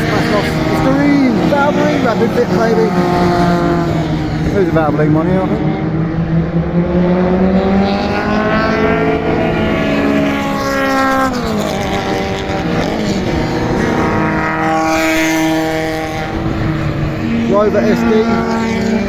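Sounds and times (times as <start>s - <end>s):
race cars passing at full throttle: 0.0s - 19.0s.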